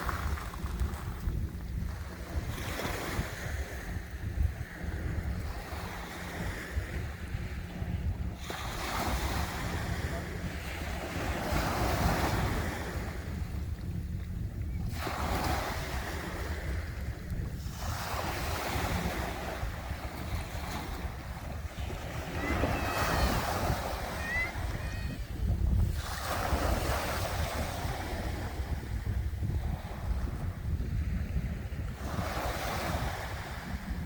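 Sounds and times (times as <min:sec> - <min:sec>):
sea waves washing in: 0:00.0 - 0:34.0
wind buffeting microphone: 0:00.0 - 0:34.0.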